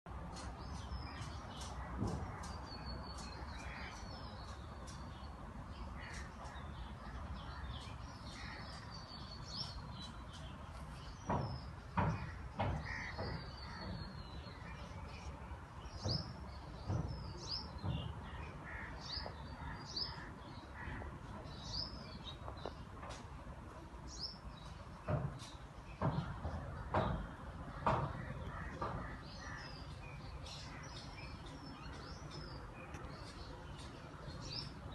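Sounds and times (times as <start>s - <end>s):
garden birds chirping: 0.0s - 34.9s.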